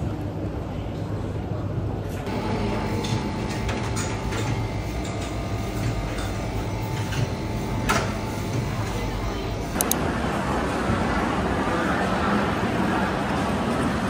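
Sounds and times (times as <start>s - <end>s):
steady machine hum: 2.2s - 14.0s.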